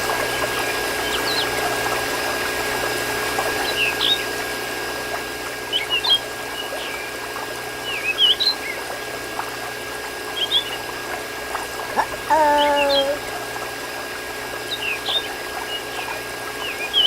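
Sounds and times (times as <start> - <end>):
water pouring and trickling: 0.0 - 17.0.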